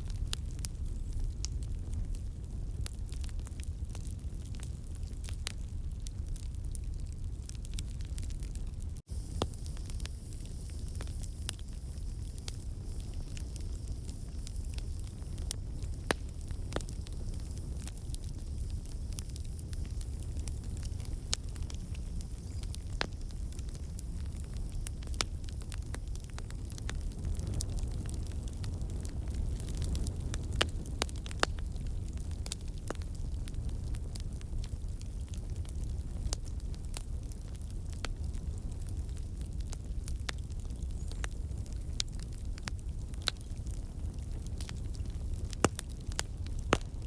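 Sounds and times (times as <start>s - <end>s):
low rumble of flames: 0.0s - 47.0s
wood crackling and popping: 0.0s - 47.0s.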